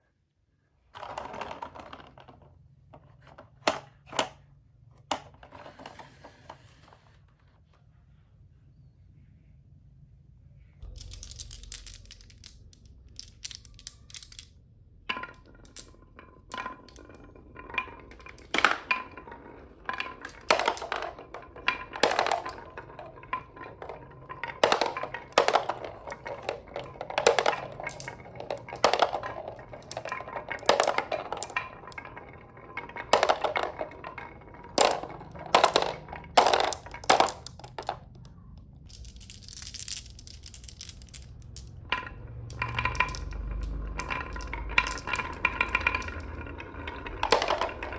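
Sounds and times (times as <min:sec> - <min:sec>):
marbles clacking: 0:01.0 - 0:04.4, 0:05.1 - 0:07.2, 0:10.8 - 0:47.9
marbles rolling on wooden track: 0:01.0 - 0:04.4, 0:05.0 - 0:07.5, 0:10.8 - 0:47.9.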